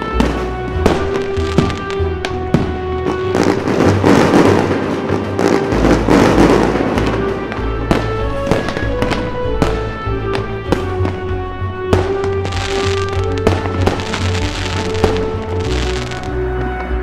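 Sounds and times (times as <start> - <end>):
firework bangs: 0.0 - 16.4
background music with low bass: 0.0 - 17.0
firecrackers crackling: 0.0 - 17.0.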